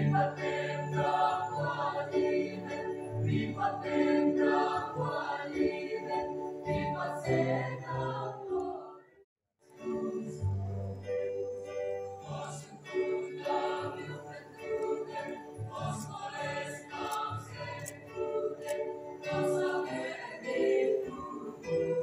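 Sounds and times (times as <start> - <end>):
choir singing: 0.0 - 9.2, 9.8 - 22.0.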